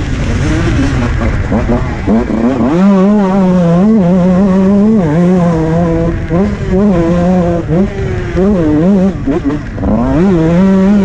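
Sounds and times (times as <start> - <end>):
motocross engine revving: 0.0 - 11.0.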